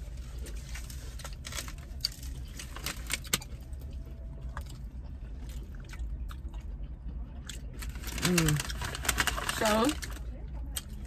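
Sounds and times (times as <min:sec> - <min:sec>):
low rumble in car cabin: 0:00.0 - 0:11.0
people eating: 0:00.0 - 0:11.0.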